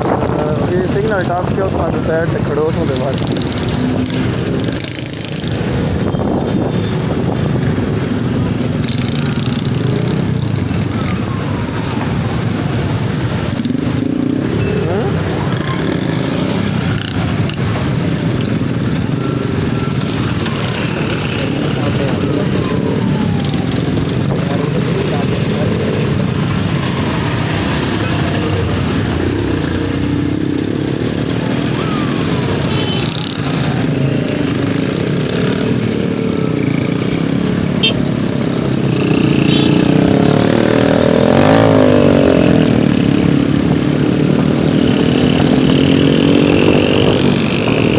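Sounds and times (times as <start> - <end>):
motorcycle engine running: 0.0 - 47.9
road and wind rumble: 0.0 - 47.9.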